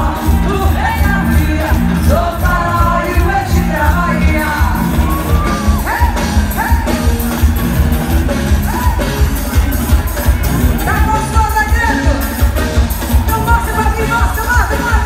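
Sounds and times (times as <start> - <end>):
person singing: 0.0 - 7.2, 8.5 - 15.0
heavy bass beat: 0.0 - 15.0.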